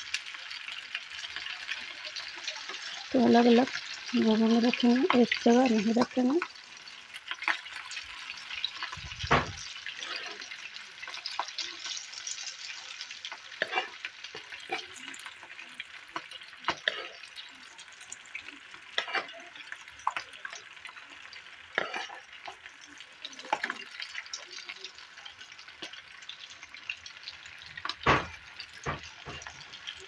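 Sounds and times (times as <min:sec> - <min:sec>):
snacks sizzling in hot oil: 0:00.0 - 0:30.0.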